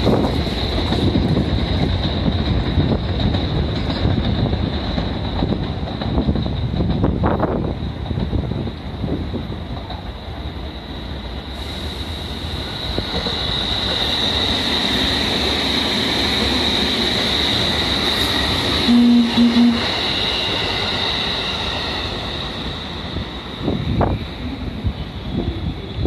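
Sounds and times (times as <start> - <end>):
electric train rumble with whine: 0.0 - 26.0.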